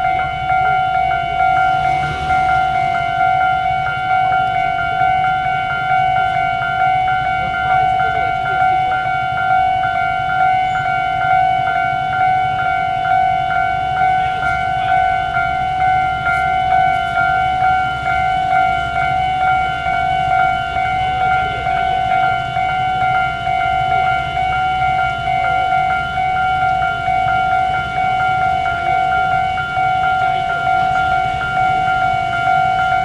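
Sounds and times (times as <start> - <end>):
loud continuous tone: 0.0 - 33.0.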